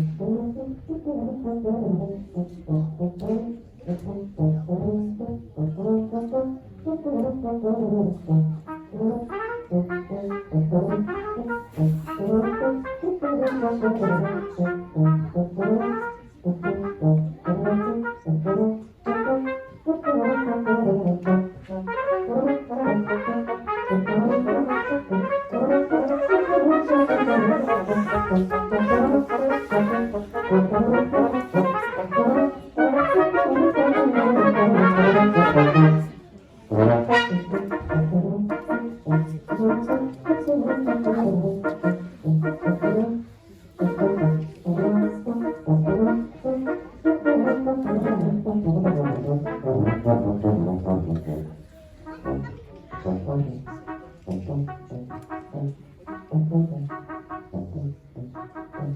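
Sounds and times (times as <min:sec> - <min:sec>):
brass quartet playing: 0:00.0 - 0:58.9.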